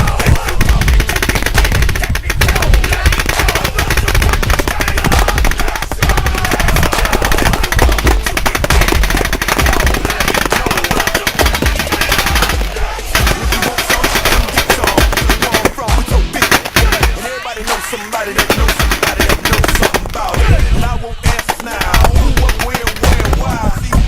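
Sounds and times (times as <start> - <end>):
paintball marker firing rapid pops: 0.0 - 24.0.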